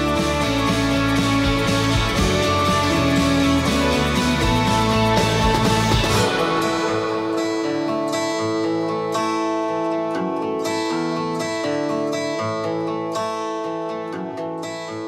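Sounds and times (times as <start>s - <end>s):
plucked acoustic guitar music: 0.0s - 15.0s.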